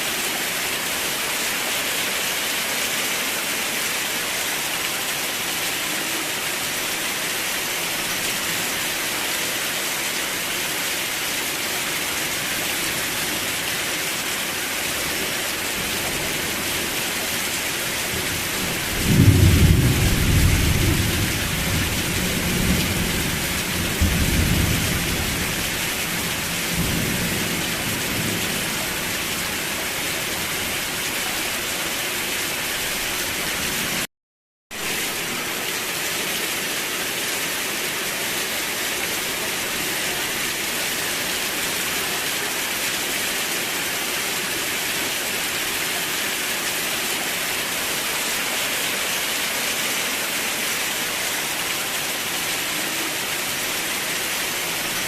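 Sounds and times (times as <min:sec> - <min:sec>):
heavy rain: 0:00.0 - 0:34.1, 0:34.7 - 0:55.0.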